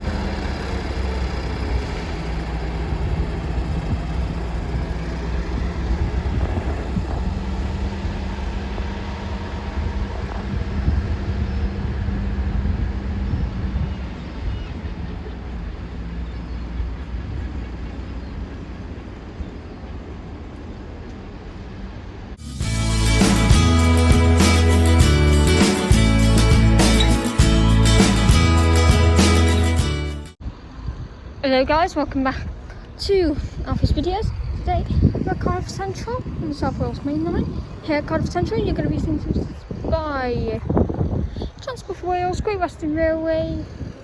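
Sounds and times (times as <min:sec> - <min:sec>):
diesel locomotive engine drone: 0:00.0 - 0:44.0.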